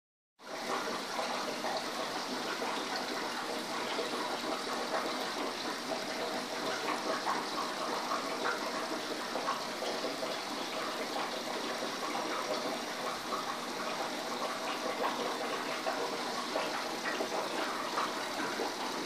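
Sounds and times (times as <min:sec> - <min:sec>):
running water in fish tank: 0:00.4 - 0:19.0.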